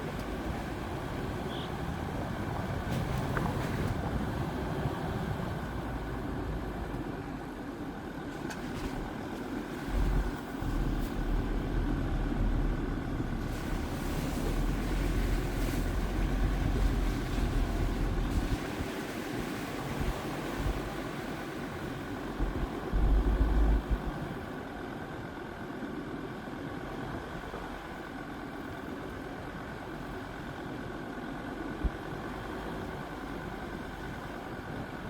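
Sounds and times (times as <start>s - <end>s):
diesel engine rumble while driving: 0.0s - 35.0s.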